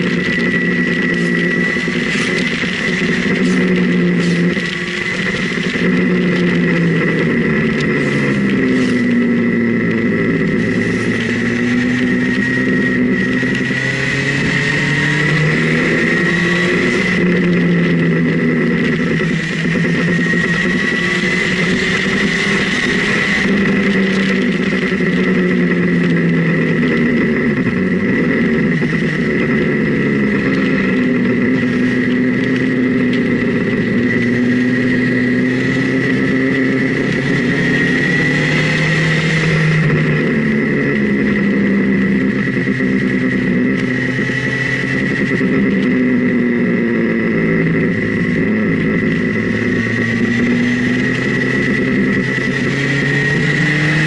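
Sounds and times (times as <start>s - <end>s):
motorcycle engine revving: 0.0s - 54.0s
steady high whine: 0.0s - 54.0s.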